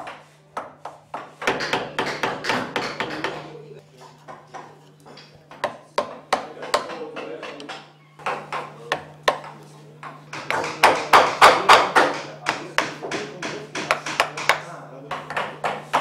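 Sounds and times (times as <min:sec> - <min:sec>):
mallet tapping carving gouge: 0:00.0 - 0:03.4, 0:04.3 - 0:16.0.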